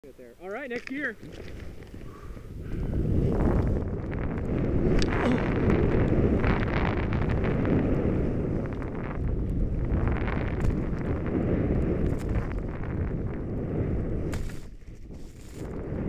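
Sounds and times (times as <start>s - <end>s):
wind buffeting microphone: 0.5s - 16.0s.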